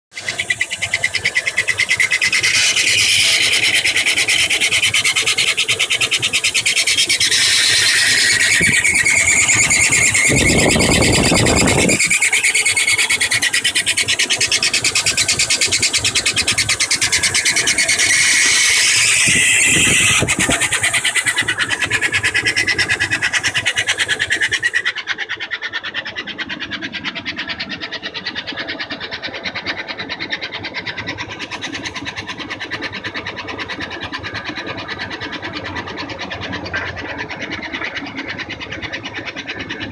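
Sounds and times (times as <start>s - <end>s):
engine running: 0.1s - 39.9s
high-pitched engine squeal: 0.1s - 39.9s.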